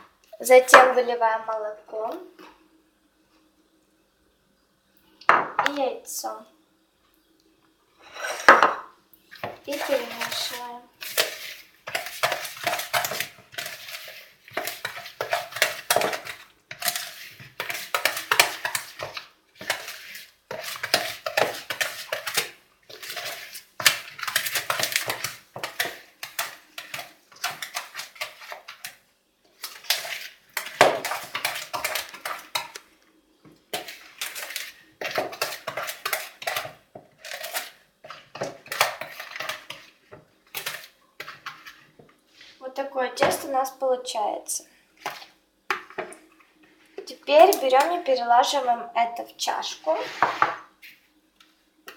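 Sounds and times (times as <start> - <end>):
spoon stirring batter in bowl: 8.0 - 43.8, 44.9 - 51.9.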